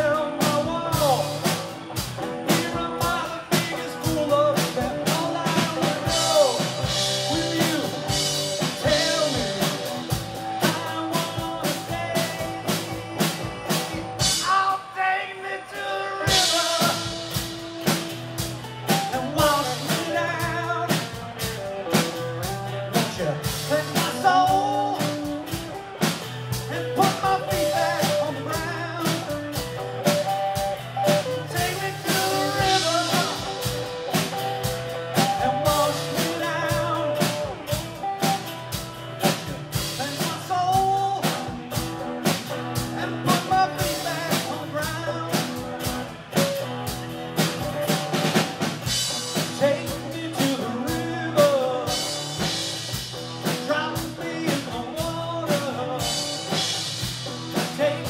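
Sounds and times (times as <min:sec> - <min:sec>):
drum kit beat: 0:00.0 - 0:15.2, 0:15.8 - 0:58.0
person singing: 0:00.0 - 0:18.2, 0:18.8 - 0:21.2, 0:21.9 - 0:46.7, 0:49.2 - 0:58.0
acoustic and electric guitars: 0:00.0 - 0:58.0.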